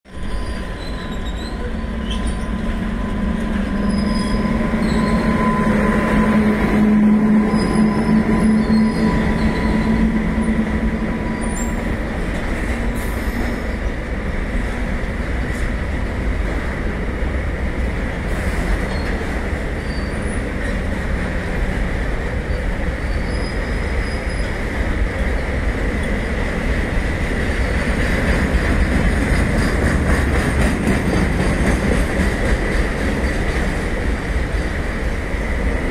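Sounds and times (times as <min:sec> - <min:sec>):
train wheels rumbling on rail: 0:00.1 - 0:35.9.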